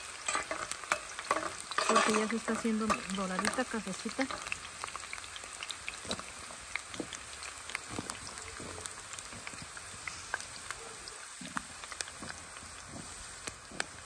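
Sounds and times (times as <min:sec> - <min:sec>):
oil popping and crackling: 0:00.0 - 0:14.0
onion sizzling in hot oil: 0:00.0 - 0:14.0.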